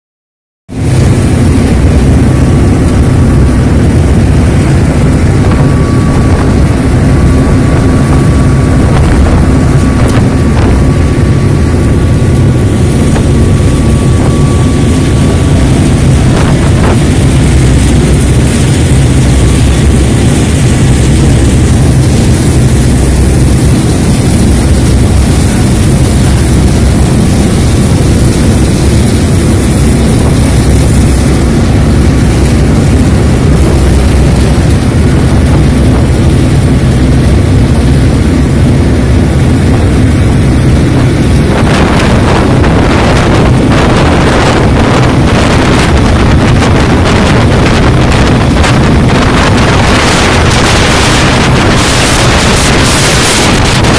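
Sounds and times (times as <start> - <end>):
ferry engine drone: 0.7 - 53.9
rushing water: 0.7 - 53.9
wind rushing: 0.7 - 53.9.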